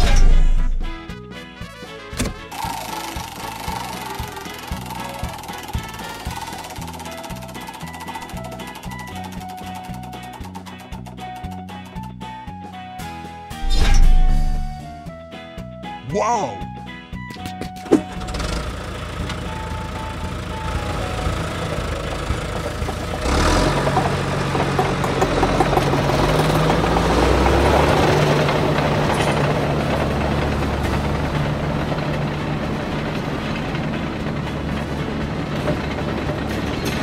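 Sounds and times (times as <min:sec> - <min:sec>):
heavy truck engine running: 0:00.0 - 0:15.3, 0:17.4 - 0:37.0.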